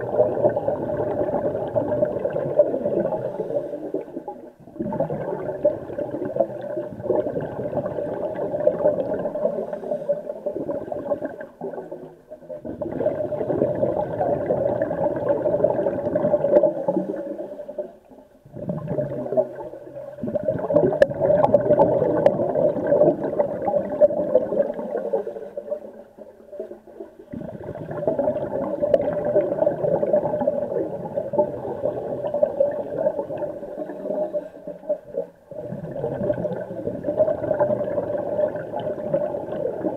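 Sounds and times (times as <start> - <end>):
regulator bubbling underwater: 0.0 - 39.9.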